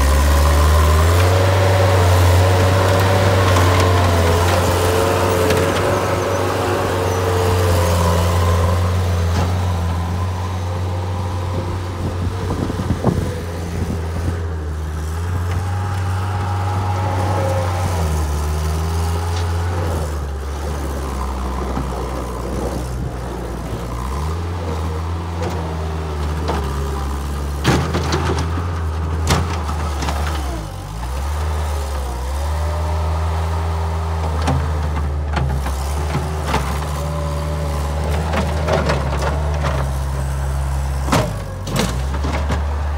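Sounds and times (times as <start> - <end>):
loader diesel engine running: 0.0 - 42.9.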